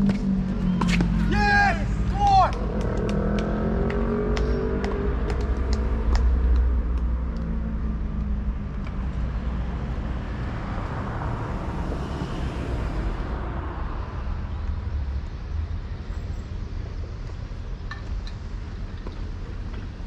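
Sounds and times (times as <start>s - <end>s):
motor vehicle rumbling: 0.0s - 20.0s.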